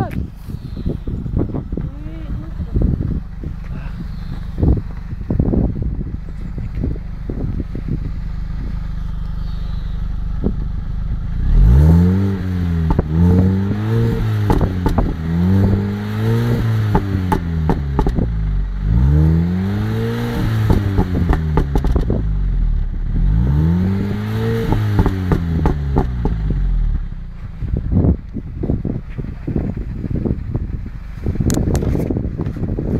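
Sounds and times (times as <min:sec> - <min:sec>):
exhaust crackles: 0:00.0 - 0:32.9
car engine revving: 0:00.6 - 0:32.9.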